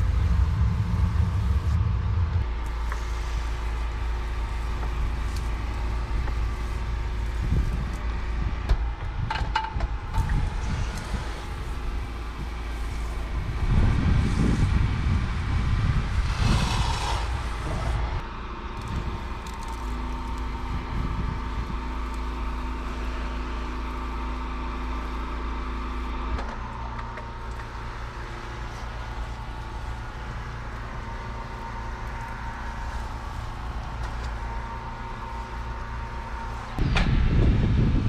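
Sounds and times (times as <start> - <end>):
pressure washer engine running: 0.0 - 36.8.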